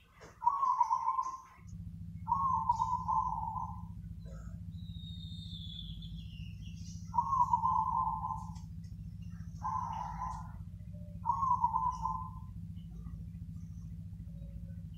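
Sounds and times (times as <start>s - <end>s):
dove cooing: 0.0s - 14.9s
steady low hum: 0.0s - 14.9s.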